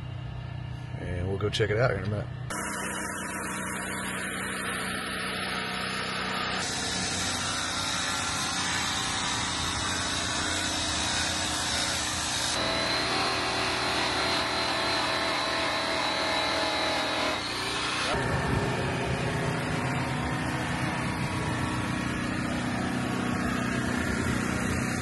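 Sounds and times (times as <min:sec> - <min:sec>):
electric polisher motor whining: 0:02.5 - 0:25.0.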